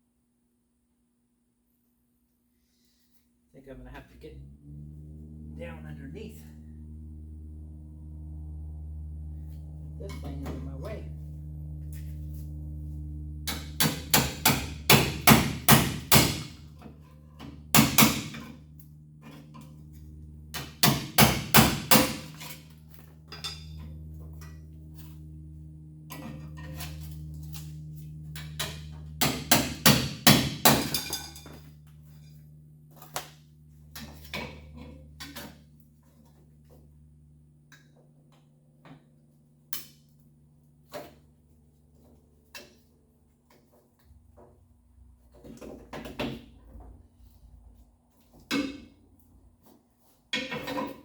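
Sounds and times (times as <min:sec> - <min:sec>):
steady low hum: 0:01.7 - 0:51.0.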